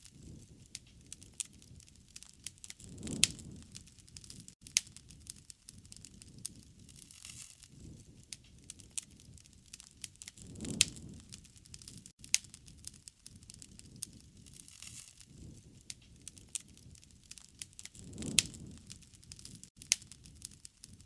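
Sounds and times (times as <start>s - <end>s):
low rumble of flame: 0.0s - 21.0s
wood fire crackling: 0.0s - 21.0s.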